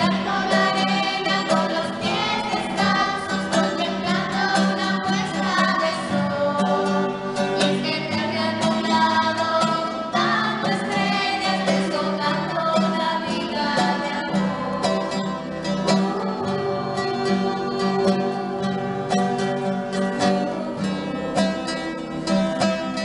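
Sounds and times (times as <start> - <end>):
women and girls singing: 0.0 - 22.0
strummed acoustic guitar: 0.0 - 23.0.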